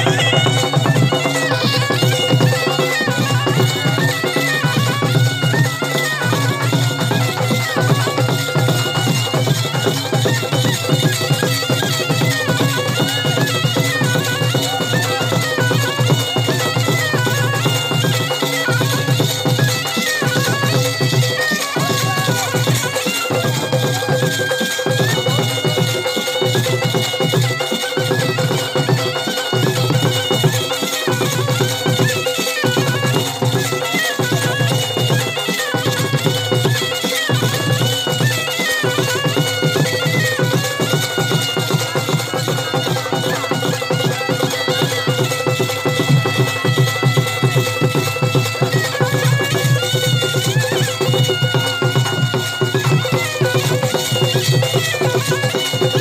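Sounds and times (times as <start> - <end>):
continuous drumming: 0.0 - 56.0
reedy wind instrument melody: 0.0 - 56.0.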